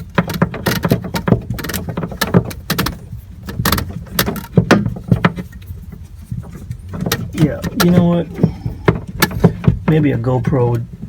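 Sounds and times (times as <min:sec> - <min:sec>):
plastic tubing clicks and rattles: 0:00.0 - 0:11.0
steady low hum: 0:00.0 - 0:11.0.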